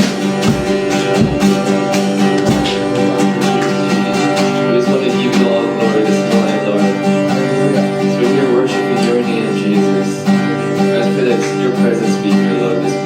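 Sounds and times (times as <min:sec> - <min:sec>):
strummed guitar worship music: 0:00.0 - 0:13.0.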